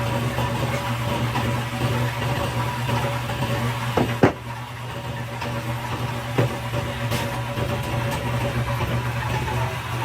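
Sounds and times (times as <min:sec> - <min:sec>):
factory machinery hum: 0:00.0 - 0:10.0.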